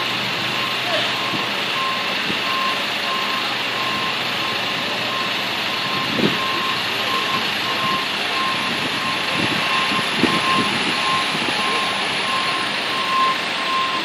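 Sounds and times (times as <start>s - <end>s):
truck backup alarm beeps: 0.0s - 14.0s
truck noise: 0.0s - 14.0s.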